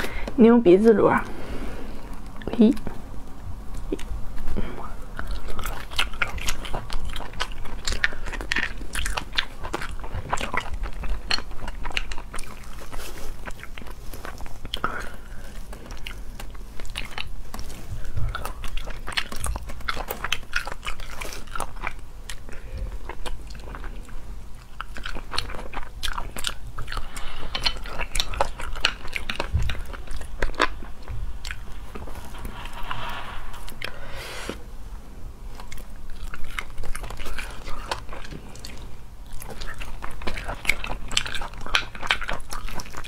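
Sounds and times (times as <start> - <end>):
wet chewing and mouth sounds: 1.1 - 33.0, 35.5 - 43.0.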